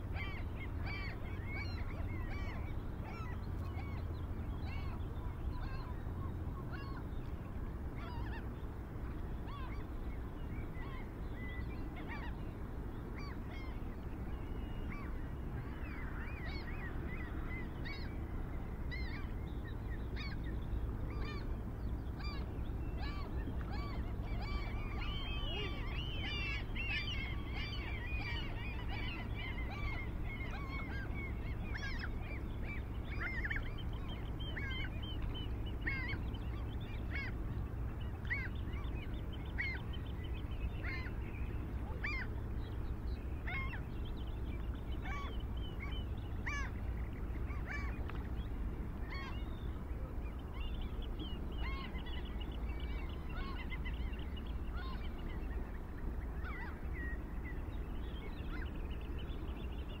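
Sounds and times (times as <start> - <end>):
birds calling: 0.0 - 60.0
steady low rumble: 0.0 - 60.0.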